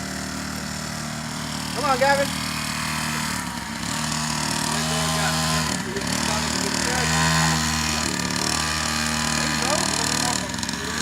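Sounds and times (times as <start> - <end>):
small dirt bike engine running: 0.0 - 11.0.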